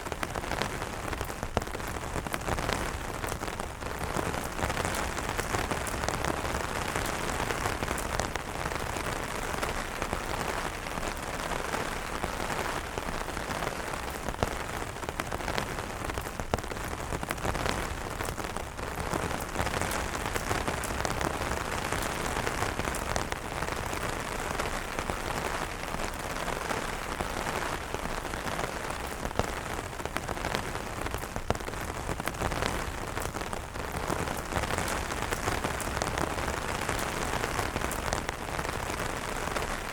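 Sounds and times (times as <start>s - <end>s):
heavy rain on umbrellas: 0.0s - 39.9s.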